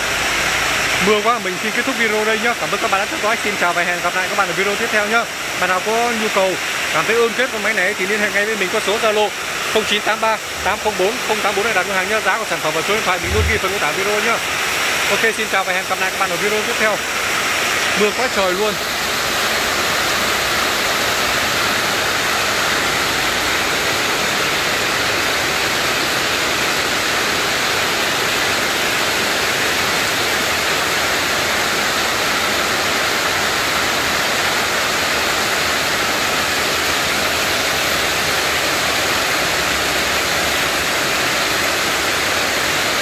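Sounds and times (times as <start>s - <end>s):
heavy rain on metal roof: 0.0s - 43.0s.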